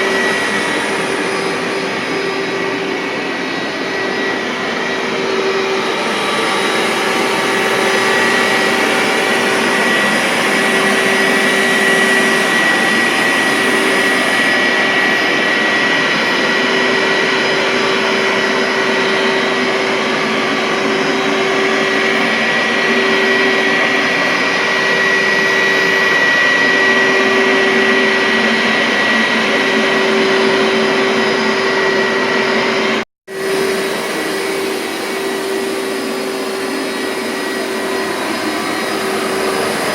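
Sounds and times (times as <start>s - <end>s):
carpet cleaner motor whining: 0.0s - 39.9s.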